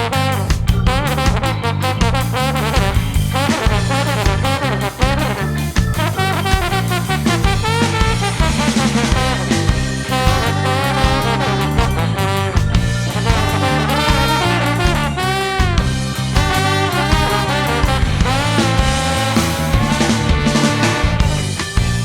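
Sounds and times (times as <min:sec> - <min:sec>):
horn solo: 0:00.0 - 0:22.0
ska band playing: 0:00.0 - 0:22.0.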